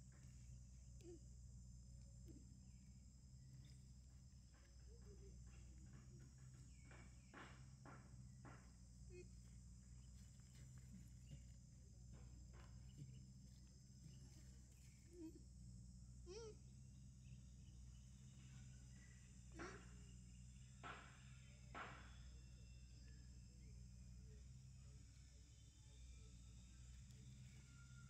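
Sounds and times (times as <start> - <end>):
faint drone of insects: 0.0 - 28.0.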